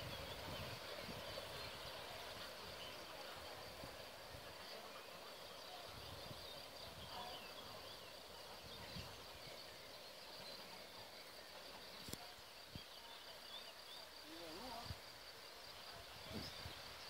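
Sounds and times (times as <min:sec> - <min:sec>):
faint chirps: 0:00.0 - 0:17.0
low hiss: 0:00.0 - 0:17.0.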